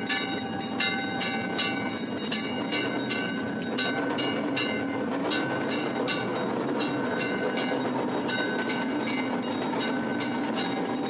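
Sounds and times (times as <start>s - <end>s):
metal bells clanging: 0.0s - 11.0s.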